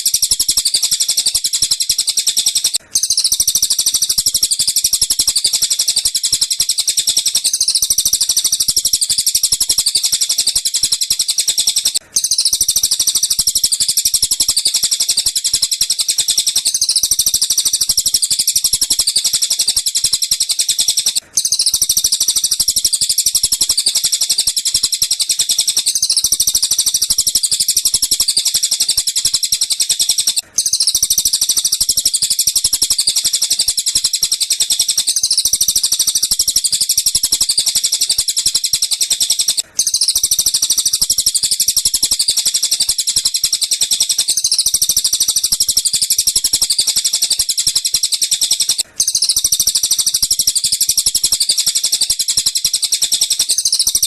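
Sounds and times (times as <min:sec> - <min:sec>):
rapid high-pitched bird chirping: 0:00.0 - 0:54.0.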